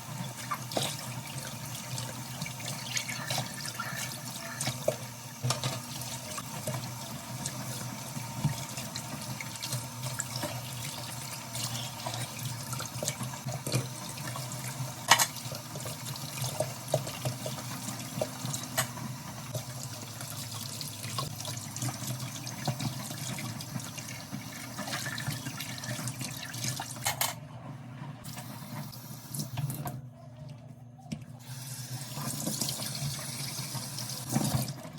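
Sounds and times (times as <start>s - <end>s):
tap water running into sink: 0.0s - 27.1s, 31.5s - 34.9s.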